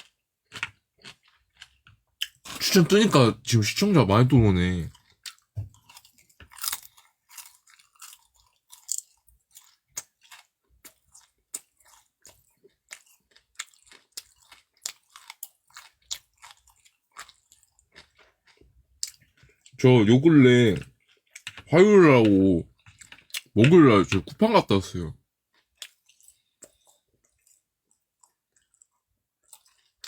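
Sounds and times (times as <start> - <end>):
person chewing food: 0.0 - 3.2, 4.4 - 30.0.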